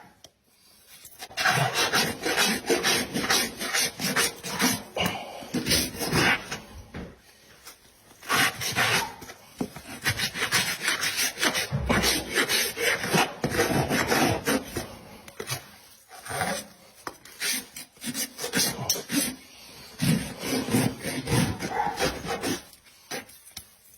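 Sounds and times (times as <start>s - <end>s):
rasp scraping horse hoof: 1.0s - 7.0s, 8.2s - 23.6s.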